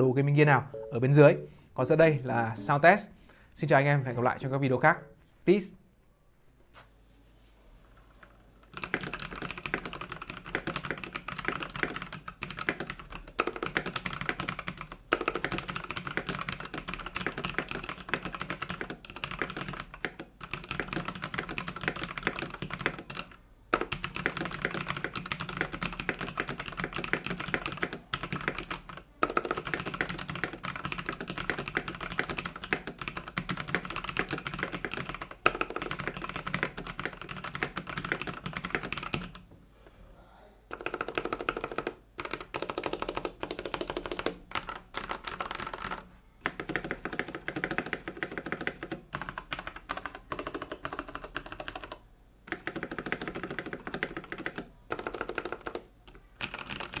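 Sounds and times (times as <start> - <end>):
mechanical keyboard typing: 8.7 - 39.4, 40.7 - 57.0.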